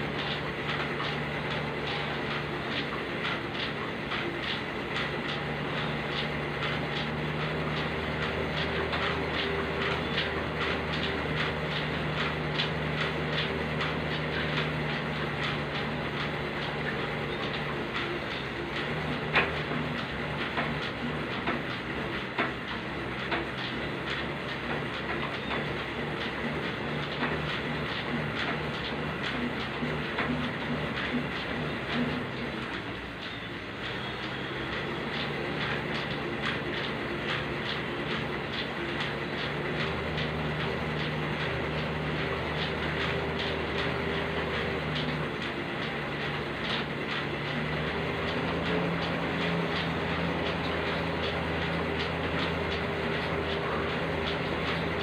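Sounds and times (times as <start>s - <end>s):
cross-trainer whirring: 0.0s - 55.0s
pedal clicks: 0.0s - 55.0s.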